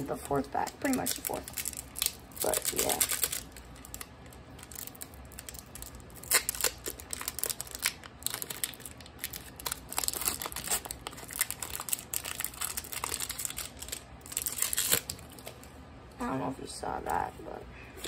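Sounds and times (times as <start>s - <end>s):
foil wrapper tearing and crinkling: 0.4s - 15.5s.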